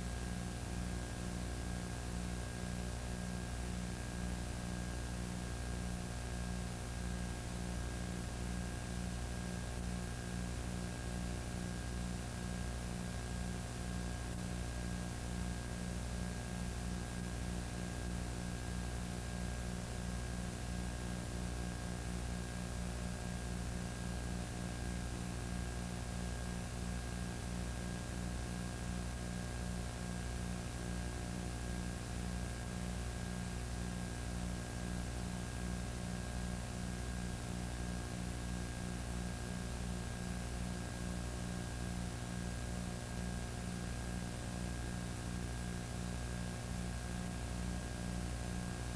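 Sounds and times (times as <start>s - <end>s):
steady electrical hum: 0.0s - 48.9s.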